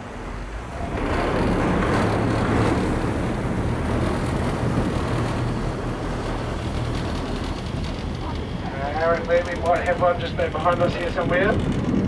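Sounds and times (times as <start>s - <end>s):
boat engine humming: 0.0s - 12.0s
wind on microphone: 0.0s - 12.0s.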